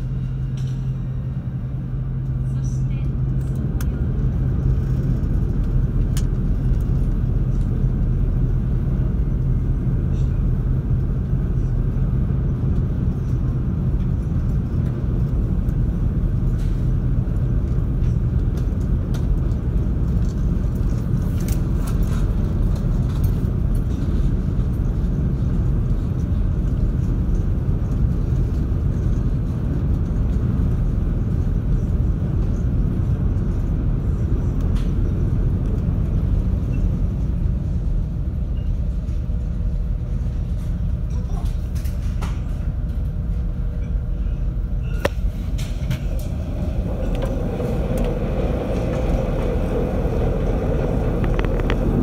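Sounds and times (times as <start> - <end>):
ship engines rumbling: 0.0 - 52.0.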